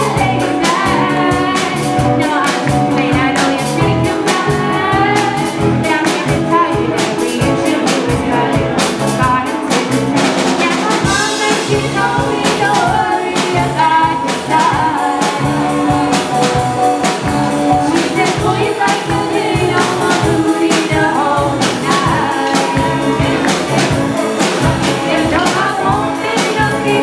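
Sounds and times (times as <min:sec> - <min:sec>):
backing singers: 0:00.0 - 0:27.0
drum kit beat: 0:00.0 - 0:27.0
live pop-rock band: 0:00.0 - 0:27.0
woman singing lead vocal: 0:00.0 - 0:27.0.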